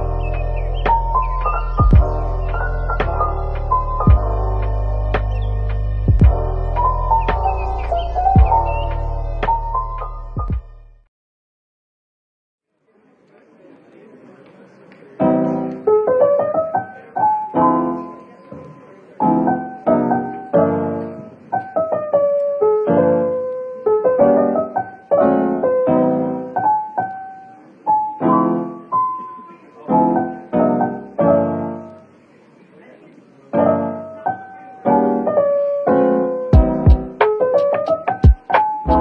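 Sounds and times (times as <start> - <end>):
piano chords: 0.0 - 11.0, 15.1 - 32.3, 33.4 - 39.0.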